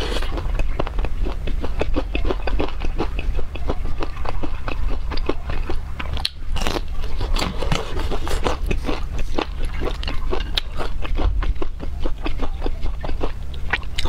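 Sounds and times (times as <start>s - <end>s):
chewing crunchy fried food: 0.0s - 14.0s.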